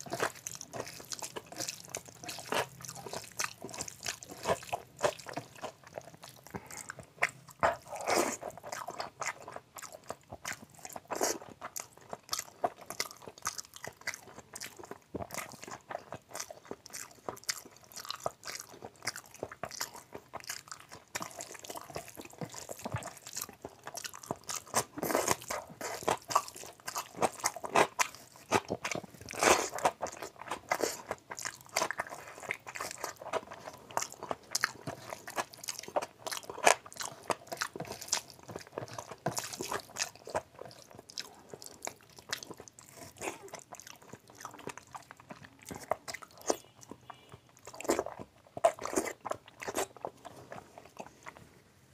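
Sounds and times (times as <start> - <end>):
man chewing wet food: 0.0 - 51.9.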